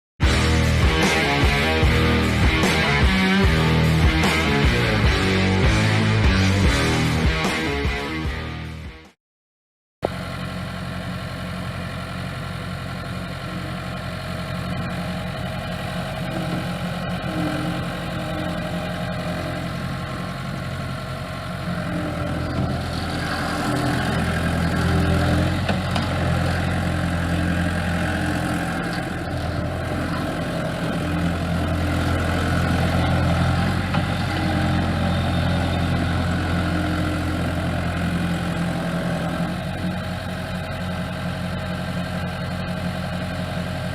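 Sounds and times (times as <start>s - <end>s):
skid steer engine idling: 0.2s - 7.4s, 10.0s - 43.9s.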